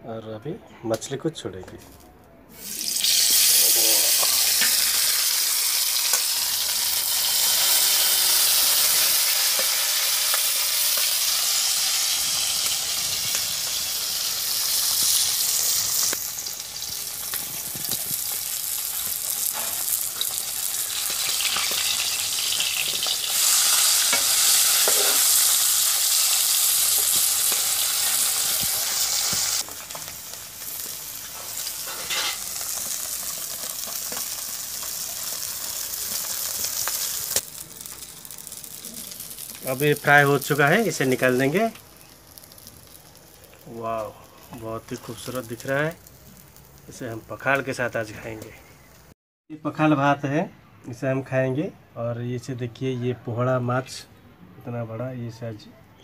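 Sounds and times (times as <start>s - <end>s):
fish sizzling in hot oil: 2.6s - 49.2s.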